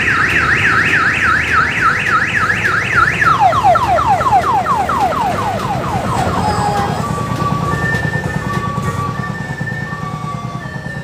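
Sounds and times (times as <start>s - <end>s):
diesel engine running: 0.0s - 11.0s
electronic siren warbling: 0.0s - 11.0s.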